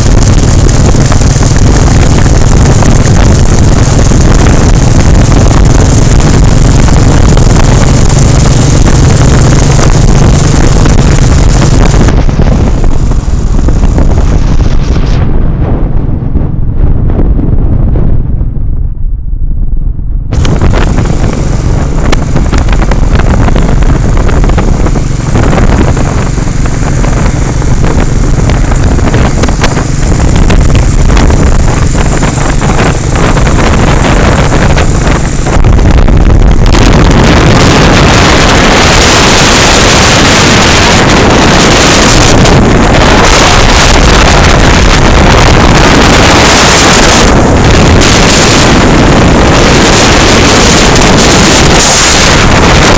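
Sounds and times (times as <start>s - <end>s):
motorcycle engine running: 0.0s - 52.9s
wind noise on microphone: 0.0s - 52.9s.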